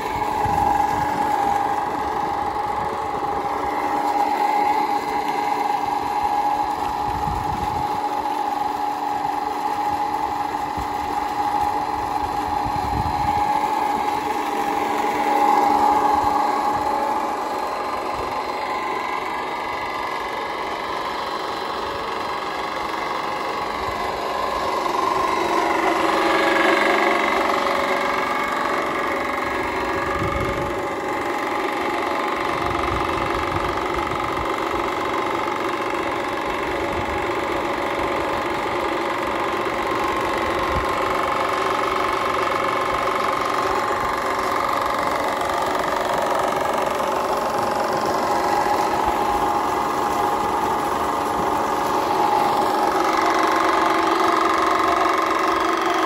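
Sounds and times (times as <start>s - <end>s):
electric pump motor whirring: 0.0s - 56.0s.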